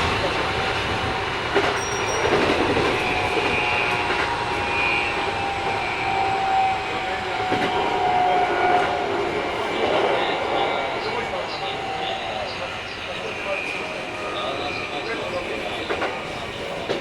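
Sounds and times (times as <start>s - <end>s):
electric train whining tones: 0.0s - 17.0s
wheel and rail noise: 0.0s - 17.0s.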